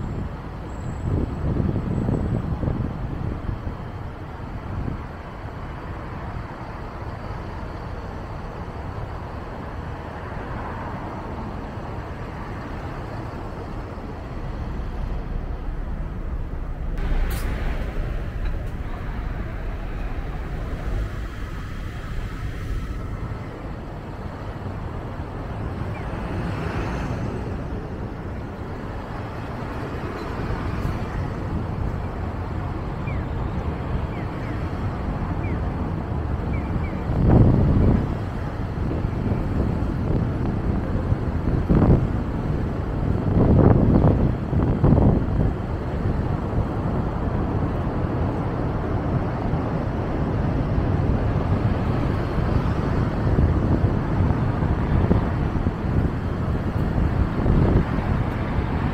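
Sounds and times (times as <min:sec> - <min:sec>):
car tyres and engine rumble: 0:00.0 - 0:58.9.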